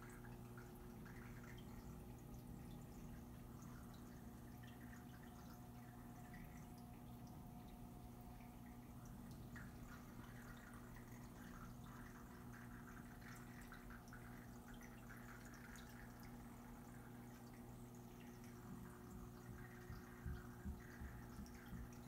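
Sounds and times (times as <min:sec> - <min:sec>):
low pump hum: 0:00.0 - 0:22.0
water trickling and dripping: 0:00.0 - 0:22.0.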